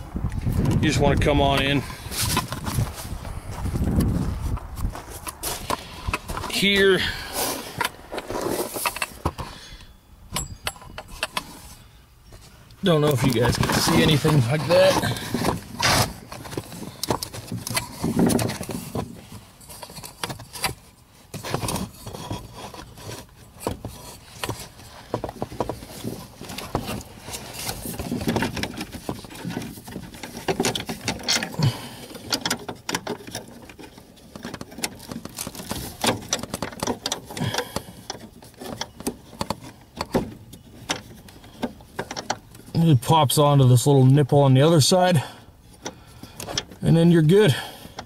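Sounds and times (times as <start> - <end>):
rustling of wiring and trim: 0.0 - 48.0.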